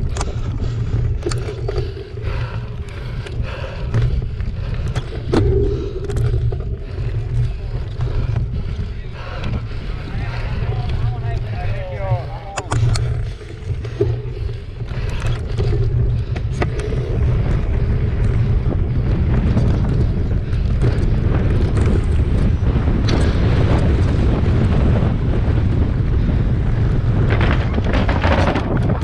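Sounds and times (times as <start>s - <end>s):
bike rattling: 0.0s - 29.0s
wind buffeting microphone: 0.0s - 29.0s.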